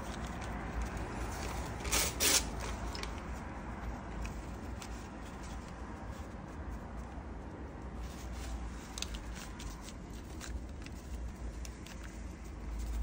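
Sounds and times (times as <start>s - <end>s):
newspaper rustling and crinkling: 0.0s - 7.2s, 7.9s - 13.0s.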